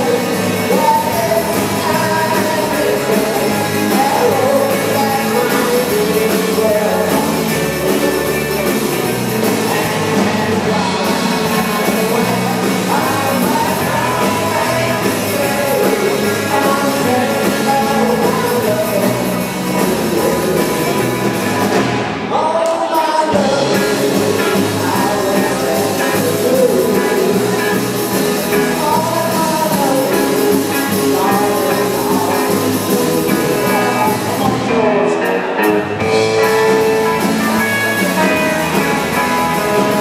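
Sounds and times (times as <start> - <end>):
bass guitar: 0.0 - 40.0
drums: 0.0 - 40.0
electric guitars: 0.0 - 40.0
lead singer singing: 0.0 - 40.0.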